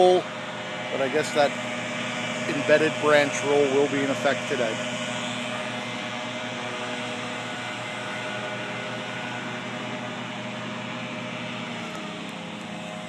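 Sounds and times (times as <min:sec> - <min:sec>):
steady mechanical drone: 0:00.0 - 0:13.0.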